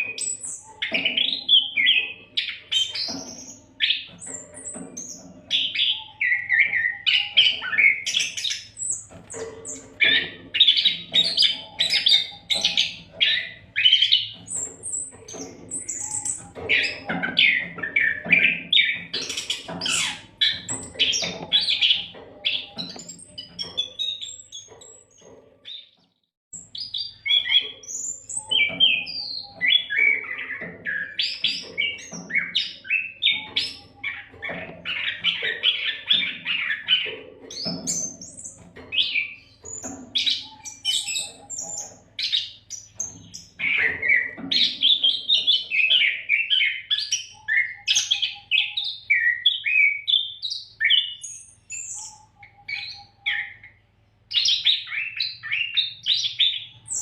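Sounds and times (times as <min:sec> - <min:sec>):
bird singing whistles and chatter: 0:00.0 - 0:25.0, 0:26.6 - 0:57.0.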